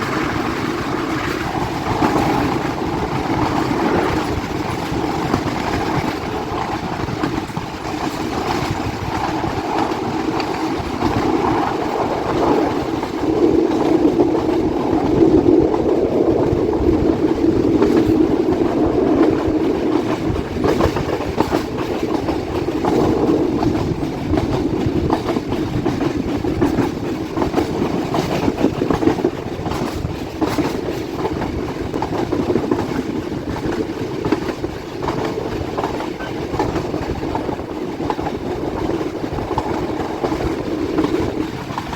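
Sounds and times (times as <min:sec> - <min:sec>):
train carriages rumbling: 0:00.0 - 0:41.9
wheels clacking over rail joints: 0:00.0 - 0:41.9.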